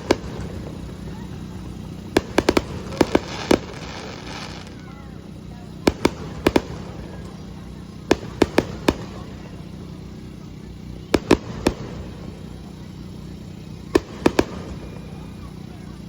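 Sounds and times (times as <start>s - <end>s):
fireworks bangs: 0.0s - 16.0s
low background hum: 0.0s - 16.0s.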